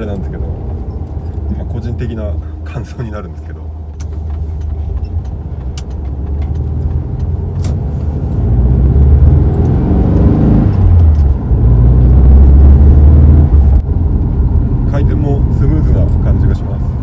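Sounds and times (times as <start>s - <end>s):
car engine drone from inside: 0.0s - 17.0s.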